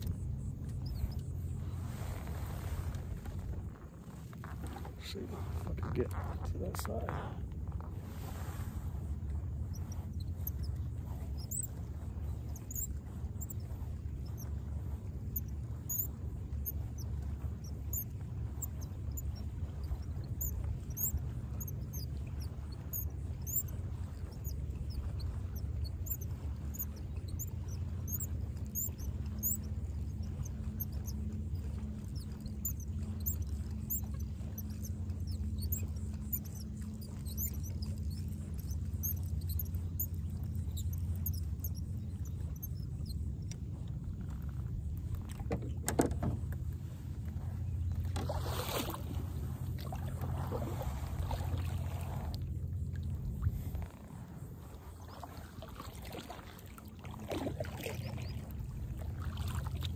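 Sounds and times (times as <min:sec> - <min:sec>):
kayak drive humming: 0:00.0 - 0:59.9.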